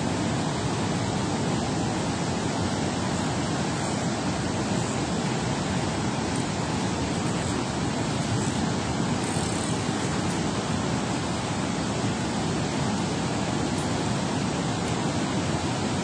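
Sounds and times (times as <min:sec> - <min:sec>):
water rushing below a spillway: 0:00.0 - 0:16.0.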